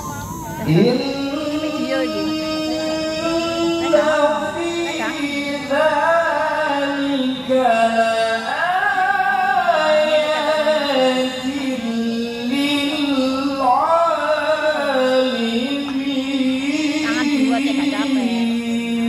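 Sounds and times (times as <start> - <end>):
man singing unaccompanied: 0.6 - 19.0.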